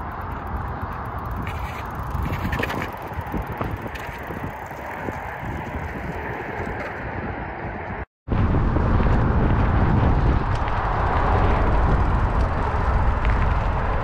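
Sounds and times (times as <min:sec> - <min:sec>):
bike clicks and rattles: 0:00.0 - 0:08.0, 0:09.1 - 0:14.0
bike tyres on dirt trail: 0:00.0 - 0:14.0
wind buffeting microphone: 0:00.0 - 0:14.0.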